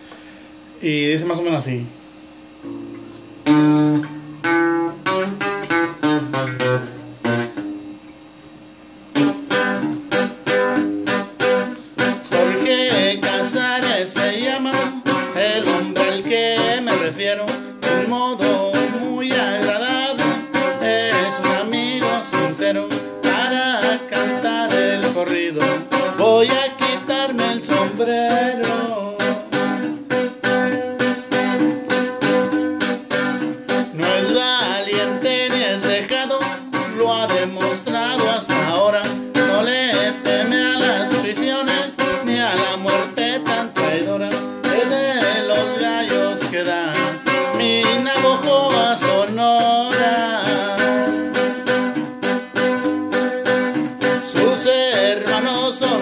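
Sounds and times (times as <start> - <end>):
twelve-string bass guitar plucking: 2.6 - 7.6, 9.2 - 56.0.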